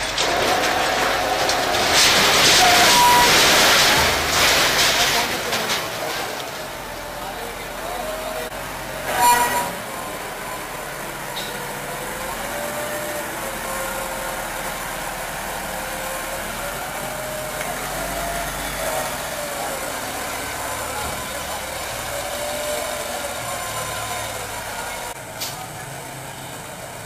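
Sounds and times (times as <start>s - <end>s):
street and crowd noise: 0.0s - 27.0s
wheel loader diesel engine: 0.0s - 27.0s.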